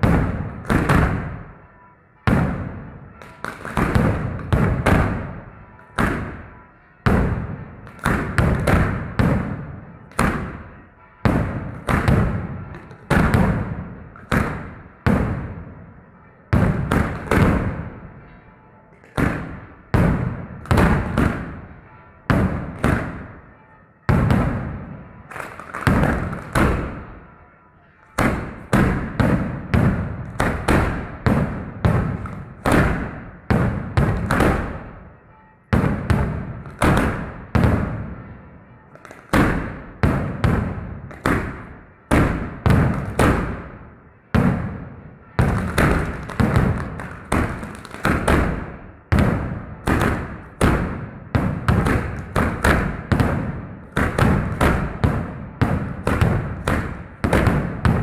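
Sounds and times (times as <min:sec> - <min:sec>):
firecrackers banging: 0:00.0 - 0:27.4, 0:28.0 - 0:58.0.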